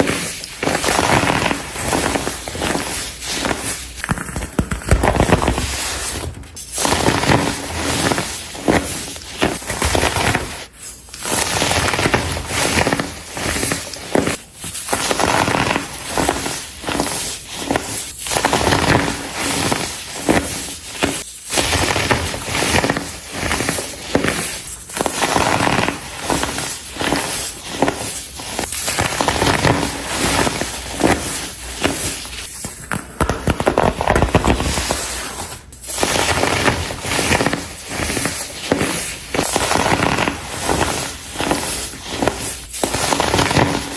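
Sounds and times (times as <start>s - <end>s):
baking soda blocks crunching: 0.0s - 43.9s.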